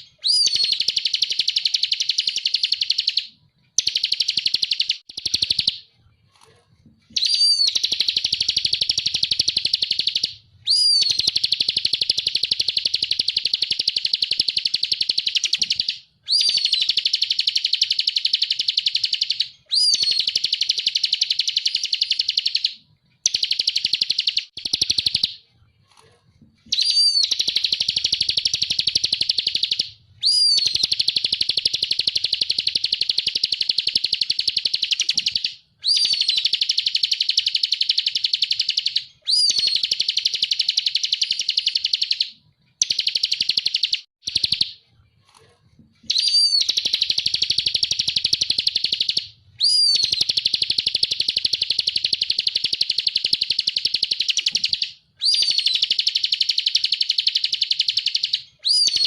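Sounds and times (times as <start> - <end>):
bird singing fast trills: 0.0 - 5.8, 7.1 - 25.4, 26.7 - 44.8, 46.1 - 59.0.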